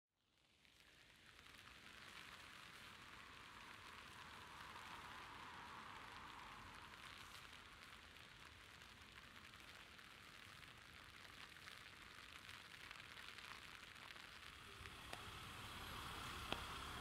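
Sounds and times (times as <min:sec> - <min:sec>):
light rain on a street: 0:00.2 - 0:17.0.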